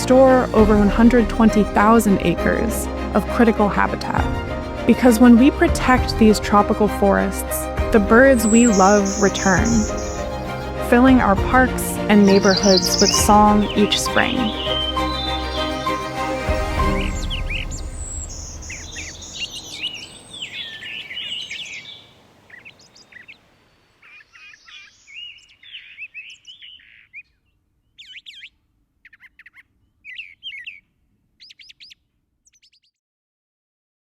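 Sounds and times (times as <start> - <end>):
songbirds singing and chirping: 0.0 - 33.0.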